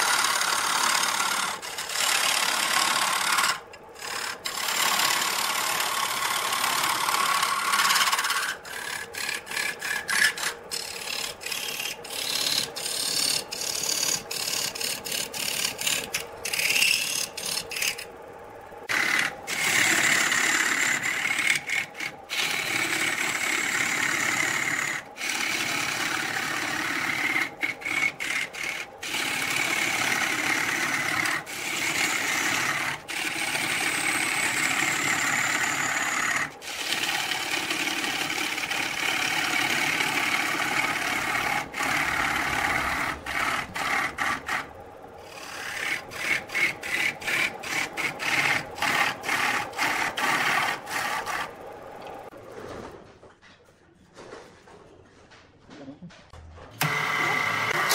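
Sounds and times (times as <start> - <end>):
lathe tool scraping wood: 0.0 - 18.2, 18.8 - 52.4, 56.8 - 57.9.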